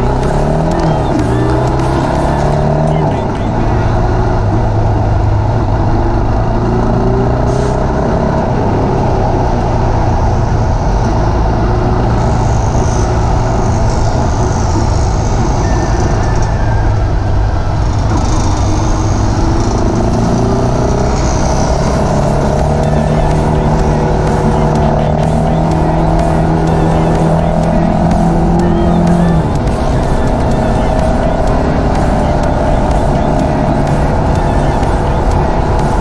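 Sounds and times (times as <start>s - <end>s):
city traffic: 0.0s - 36.0s
motorcycle engine running: 0.0s - 36.0s.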